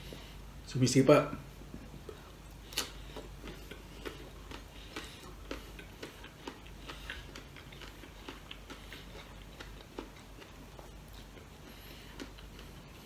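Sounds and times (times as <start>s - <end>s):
man chewing food: 0.0s - 0.6s, 1.5s - 13.0s
mouth clicks and smacks: 1.7s - 13.0s.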